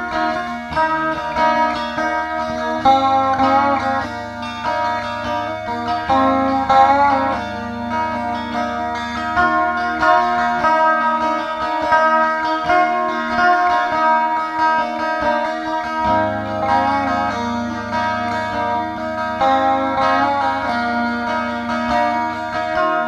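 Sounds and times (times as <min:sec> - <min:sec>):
plucked string instruments: 0:00.0 - 0:23.0
slide guitar with bending notes: 0:00.0 - 0:23.0.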